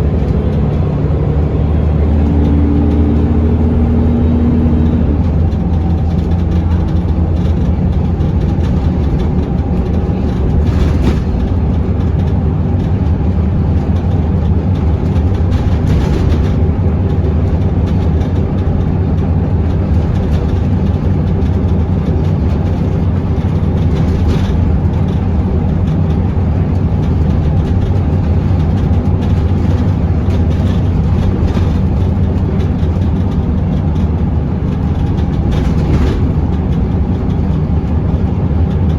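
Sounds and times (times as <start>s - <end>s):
bus diesel engine droning: 0.0s - 38.9s
road and body noise: 0.0s - 38.9s.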